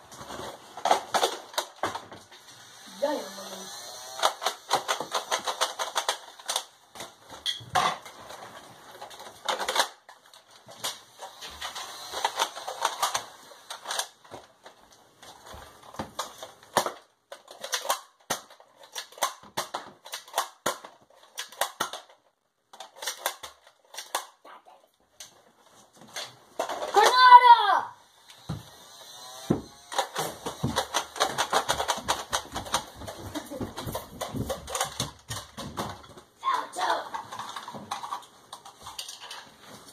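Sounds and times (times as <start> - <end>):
toy blasters clicking and firing: 0.8 - 2.0, 2.6 - 7.9, 9.0 - 14.4, 16.0 - 24.4, 26.2 - 39.4.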